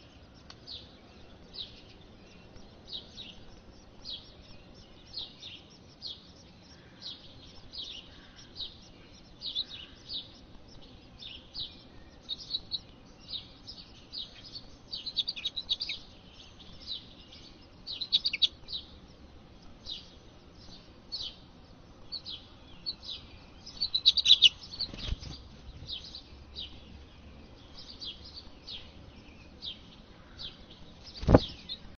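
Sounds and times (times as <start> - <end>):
nestlings chirping: 0.0 - 31.9.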